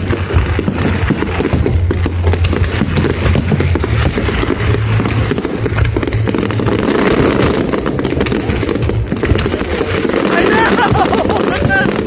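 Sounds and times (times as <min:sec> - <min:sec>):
fireworks cracking and popping: 0:00.0 - 0:12.0
low rumble: 0:00.0 - 0:12.0.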